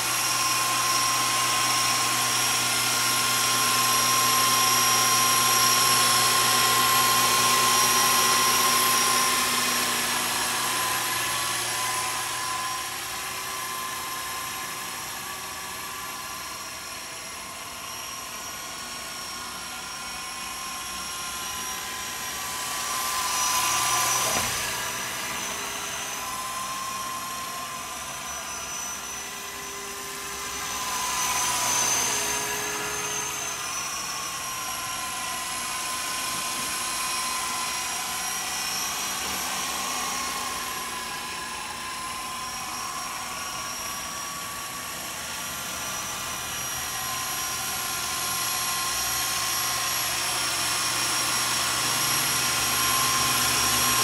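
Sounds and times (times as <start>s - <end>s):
model helicopter motor whine: 0.0s - 54.0s.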